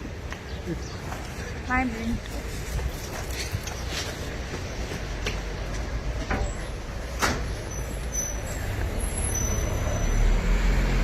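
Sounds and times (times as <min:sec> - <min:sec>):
motor vehicle low rumble: 0:00.0 - 0:11.0.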